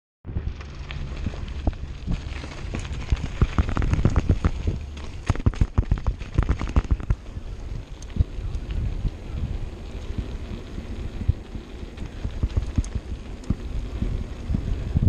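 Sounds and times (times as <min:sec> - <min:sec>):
bike rattling and knocking: 0:00.3 - 0:15.0
low rumble: 0:00.3 - 0:15.0.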